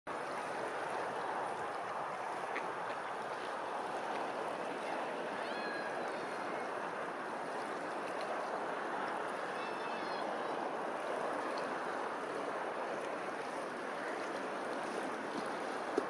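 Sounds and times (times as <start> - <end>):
choppy water rushing: 0.1 - 16.0.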